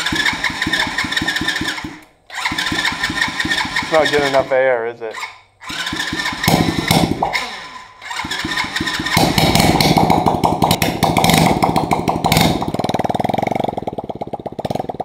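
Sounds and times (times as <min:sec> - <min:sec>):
small motorcycle engine starting: 0:00.0 - 0:15.0.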